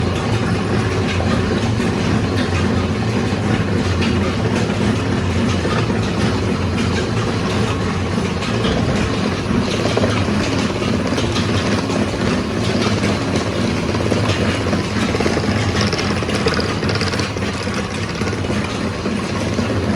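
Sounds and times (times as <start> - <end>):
oil press motor humming: 0.0 - 19.9.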